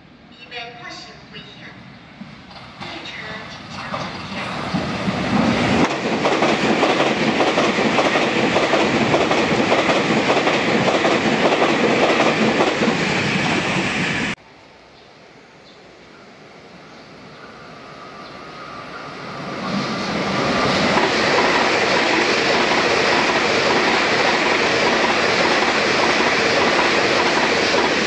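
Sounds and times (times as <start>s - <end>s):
train wheels rushing on rail: 2.2s - 14.4s, 17.5s - 28.0s.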